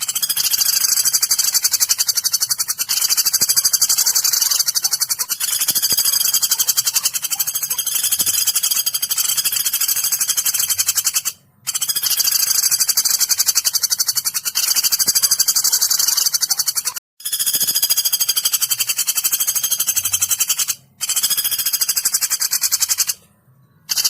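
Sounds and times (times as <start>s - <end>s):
woodpecker calling: 0.0s - 24.0s.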